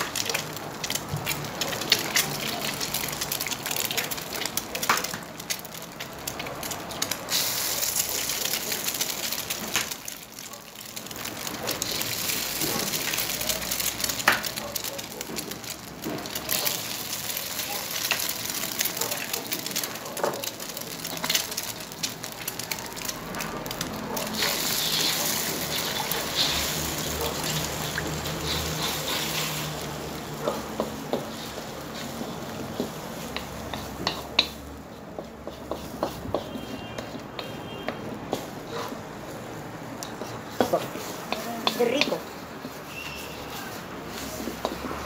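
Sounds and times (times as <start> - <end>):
food sizzling in a pan: 0.0 - 34.8, 38.2 - 45.0.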